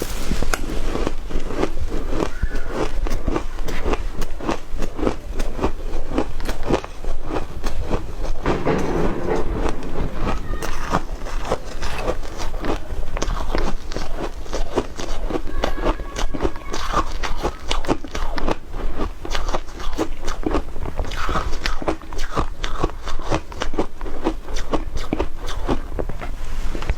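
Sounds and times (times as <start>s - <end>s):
chewing crunchy ice: 0.8s - 8.5s, 11.3s - 26.3s.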